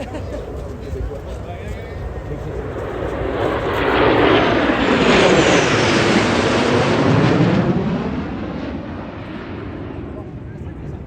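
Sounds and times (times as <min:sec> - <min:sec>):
jet aircraft flyover: 0:00.0 - 0:11.0.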